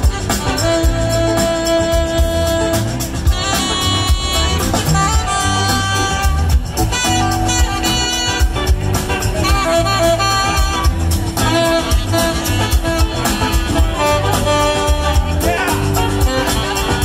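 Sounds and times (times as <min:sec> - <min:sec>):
live band playing: 0:00.0 - 0:17.0
saxophone lead line: 0:00.0 - 0:17.0.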